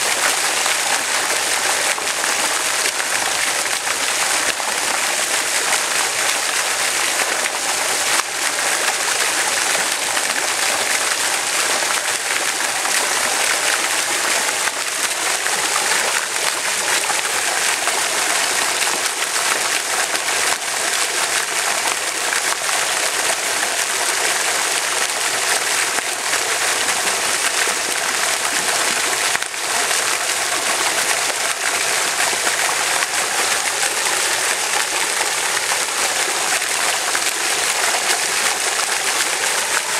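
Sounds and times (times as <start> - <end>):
rushing water splashing: 0.0 - 39.9.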